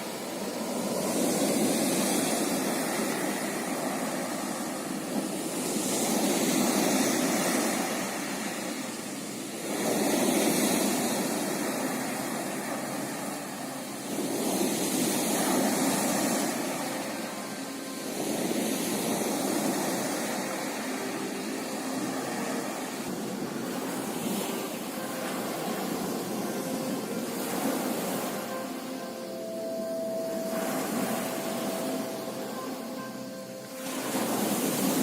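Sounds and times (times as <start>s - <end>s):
sea waves breaking on shore: 0.0s - 35.0s.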